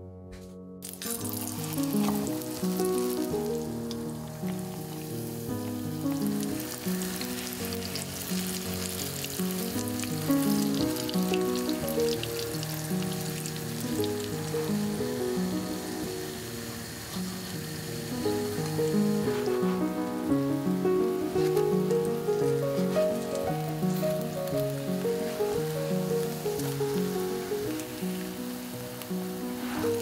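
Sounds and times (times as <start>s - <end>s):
background music: 0.0s - 30.0s
pasties sizzling in hot oil: 0.8s - 30.0s.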